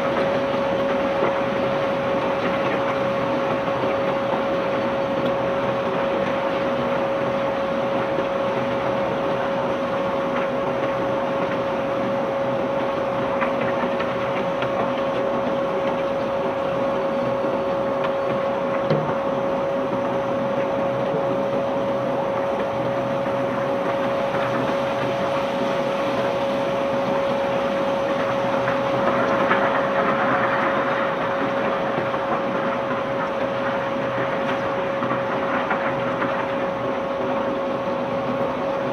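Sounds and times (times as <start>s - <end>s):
machinery rumbling and rattling: 0.0s - 38.9s
machinery whine: 0.0s - 38.9s.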